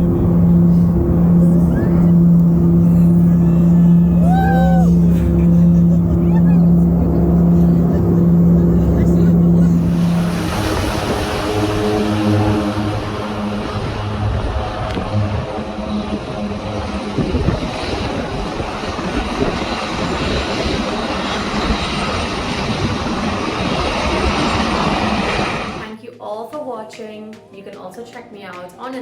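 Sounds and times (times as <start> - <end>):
broad rushing noise: 0.0 - 25.9
propeller aeroplane engines: 0.0 - 25.9.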